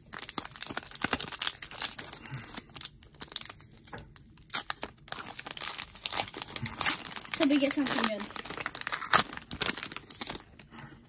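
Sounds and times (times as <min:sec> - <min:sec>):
foil wrapper tearing and crinkling: 0:00.0 - 0:10.7.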